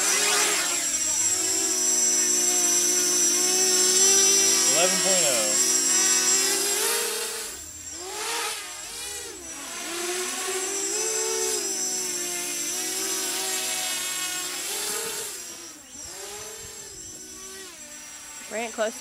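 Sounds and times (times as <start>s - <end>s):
quadcopter buzzing in flight: 0.0s - 19.0s.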